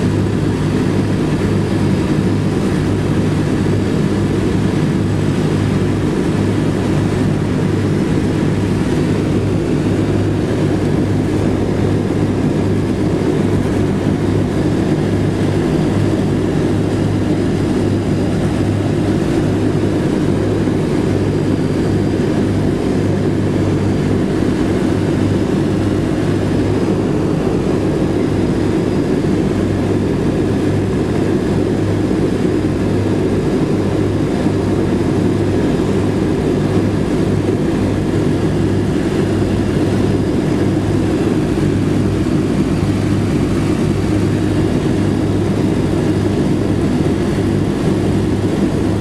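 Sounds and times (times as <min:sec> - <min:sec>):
aircraft engines droning: 0:00.0 - 0:49.0.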